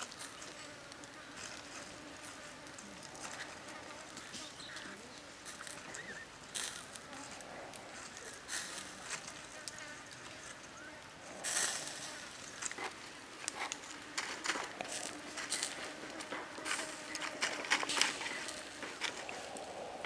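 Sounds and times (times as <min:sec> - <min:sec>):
wet crackly rustles of meat: 0:00.0 - 0:20.0.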